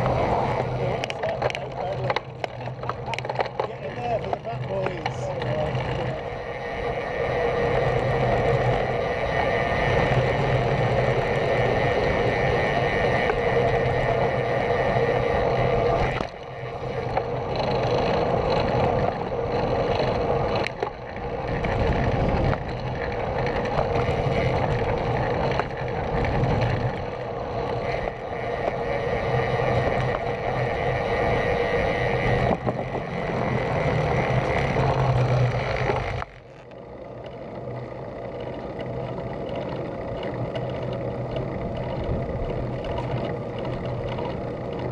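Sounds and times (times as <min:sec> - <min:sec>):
wind rushing over camera: 0:00.0 - 0:36.3
bike tyre road noise: 0:00.0 - 0:44.9.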